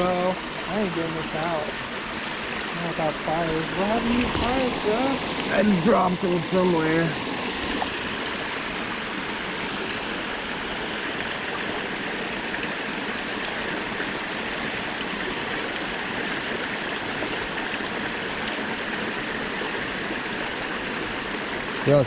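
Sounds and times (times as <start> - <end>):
creek water flowing: 0.0 - 22.0.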